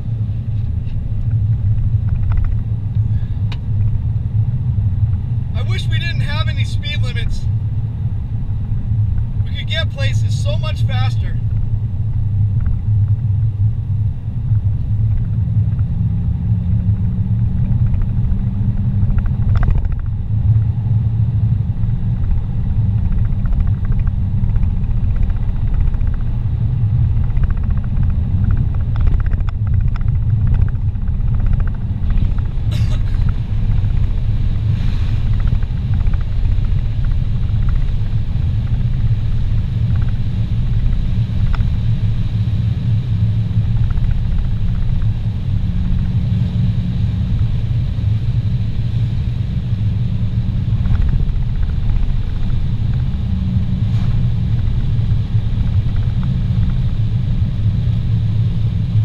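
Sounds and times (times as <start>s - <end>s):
car engine and tyres at speed: 0.0s - 59.0s.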